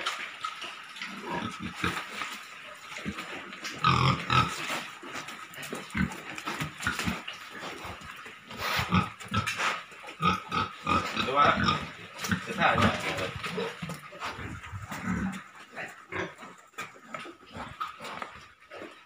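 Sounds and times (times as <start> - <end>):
pigs grunting: 0.6 - 19.0.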